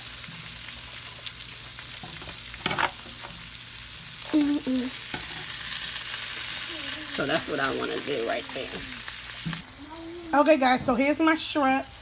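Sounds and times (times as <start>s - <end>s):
seafood sizzling in oil: 0.0s - 12.0s.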